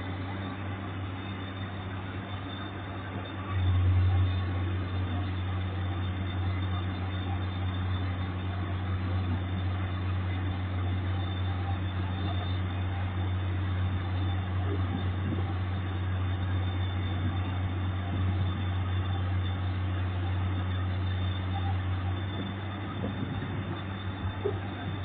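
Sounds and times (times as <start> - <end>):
excavator diesel engine humming: 0.0 - 25.0.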